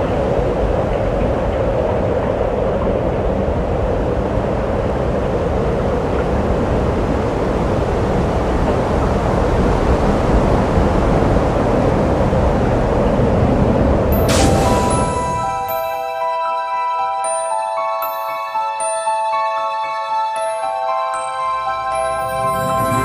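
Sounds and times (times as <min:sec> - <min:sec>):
steady rushing wind noise: 0:00.0 - 0:16.3, 0:17.8 - 0:23.0.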